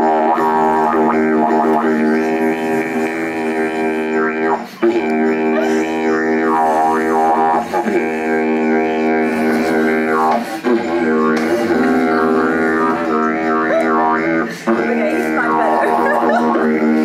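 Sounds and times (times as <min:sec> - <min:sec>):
didgeridoos droning: 0:00.0 - 0:17.0.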